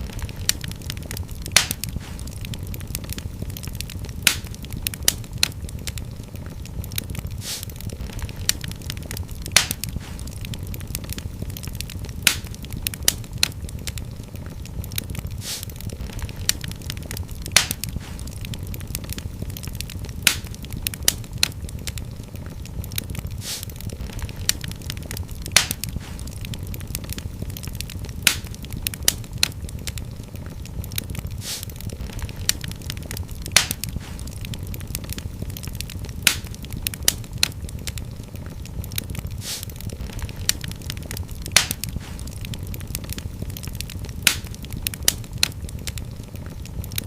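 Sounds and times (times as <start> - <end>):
fire hissing: 0.0 - 47.0
fireplace fire crackling: 0.0 - 47.0
low rumble of flame: 0.0 - 47.0.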